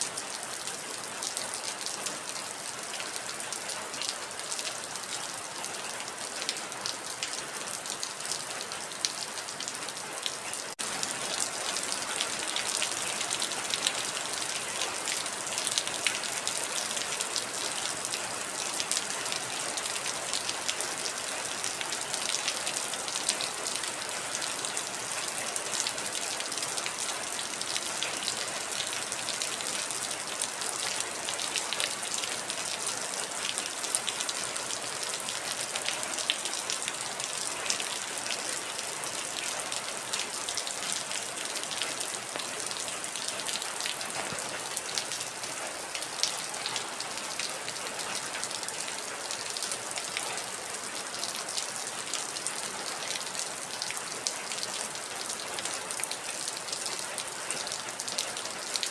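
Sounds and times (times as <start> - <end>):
heavy rain: 0.0 - 58.9
raindrops ticking on a surface: 0.0 - 58.9.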